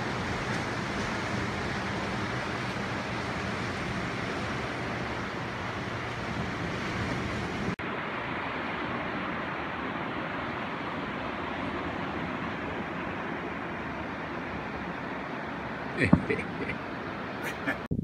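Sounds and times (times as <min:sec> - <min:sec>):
low engine hum: 0:00.0 - 0:18.0
wind from moving vehicle: 0:00.0 - 0:18.0.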